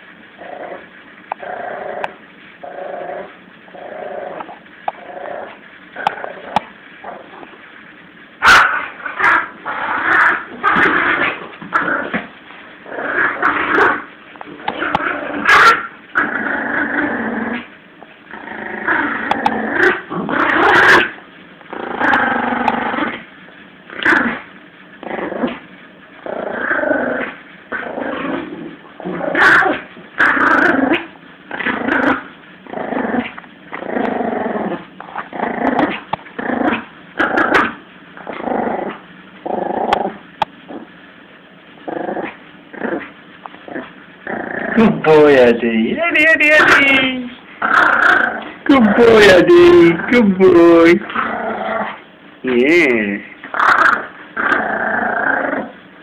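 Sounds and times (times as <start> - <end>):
puppy growling: 0.4 - 7.6, 8.4 - 23.3, 23.9 - 41.0, 41.7 - 56.0.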